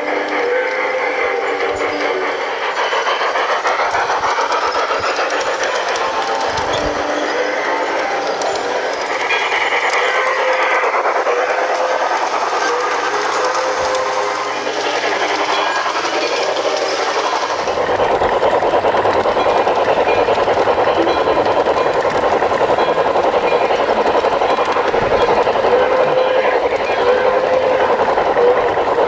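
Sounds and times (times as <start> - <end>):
model train wheels clattering: 0.0 - 29.0.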